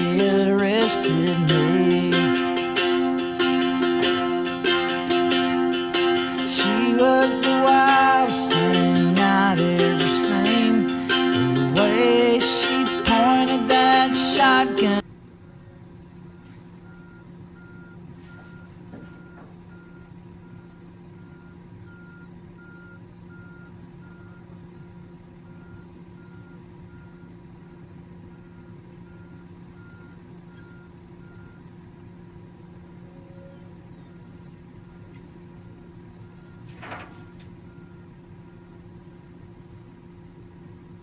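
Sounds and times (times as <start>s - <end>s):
backup alarm beeping: 0.0s - 15.0s, 16.3s - 31.8s, 33.0s - 38.9s
diesel engine hum: 0.0s - 41.0s.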